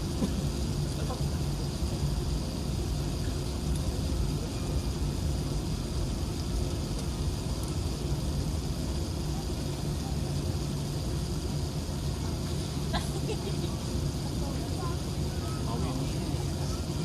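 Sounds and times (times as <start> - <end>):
air-conditioning hiss: 0.0 - 17.0
jet engines humming: 0.0 - 17.0.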